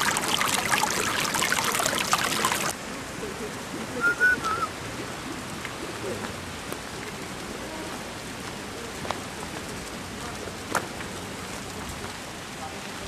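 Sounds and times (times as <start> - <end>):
falling water hiss: 0.0 - 13.0.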